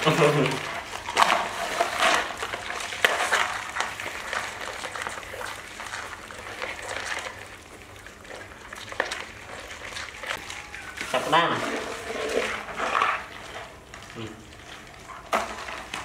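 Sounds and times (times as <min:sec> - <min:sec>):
crabs clicking on plastic bowl: 0:00.0 - 0:16.0.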